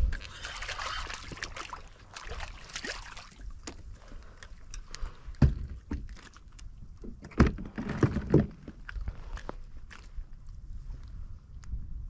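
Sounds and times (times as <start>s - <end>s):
water splashing beside a kayak: 0.0s - 10.4s.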